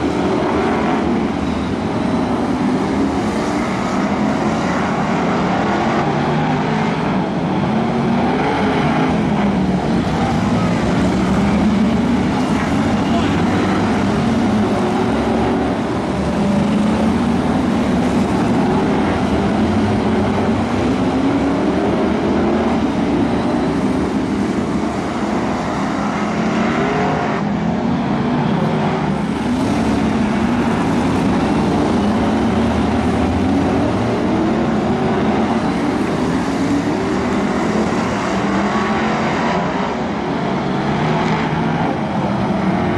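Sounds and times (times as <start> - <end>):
race car engines revving: 0.0 - 42.9.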